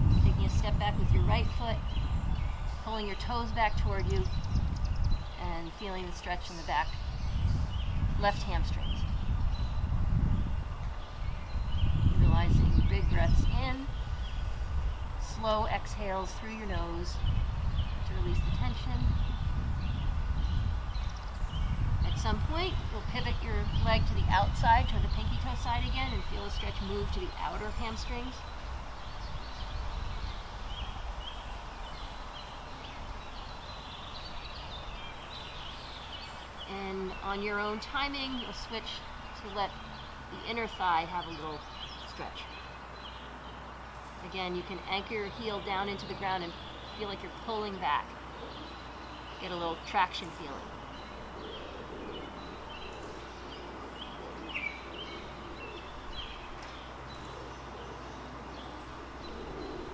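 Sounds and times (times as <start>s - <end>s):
outdoor background hiss: 0.0s - 59.9s
small birds chirping: 0.0s - 59.9s.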